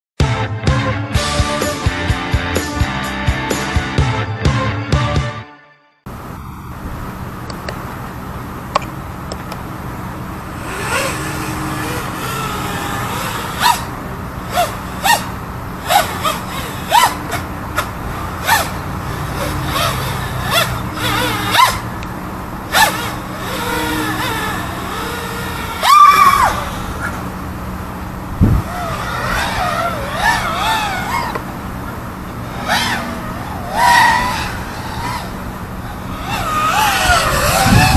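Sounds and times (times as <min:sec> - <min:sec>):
quadcopter propellers whining: 0:06.1 - 0:37.9
steady low hum: 0:06.1 - 0:37.9.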